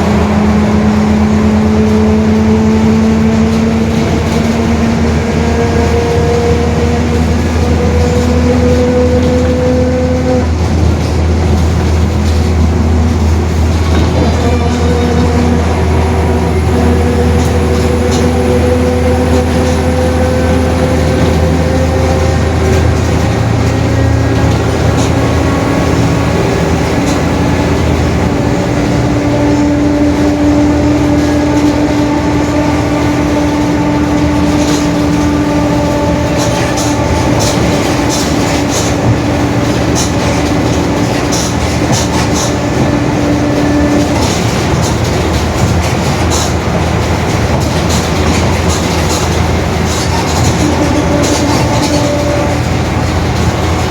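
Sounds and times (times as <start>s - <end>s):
bus diesel engine under load: 0.0s - 53.9s
body rattles clicking: 0.4s - 53.9s.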